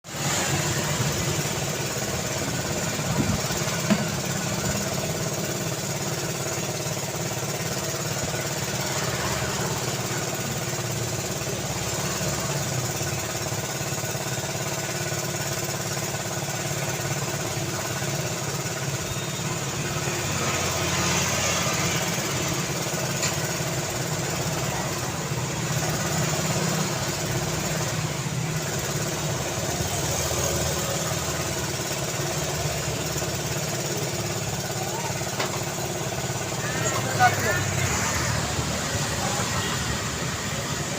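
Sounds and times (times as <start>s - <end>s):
car engines and tyre noise: 0.0s - 13.5s, 19.0s - 40.9s.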